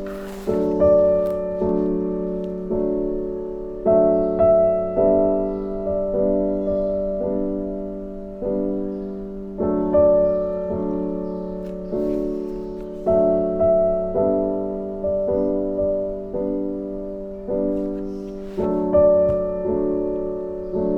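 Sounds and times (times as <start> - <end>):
slow soft piano chords: 0.0 - 20.9.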